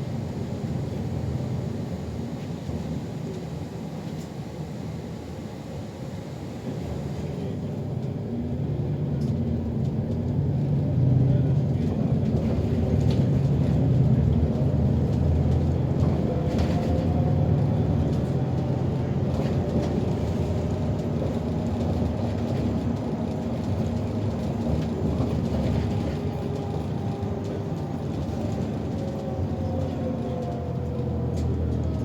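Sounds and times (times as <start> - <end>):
bus engine and road rumble: 0.0 - 32.0.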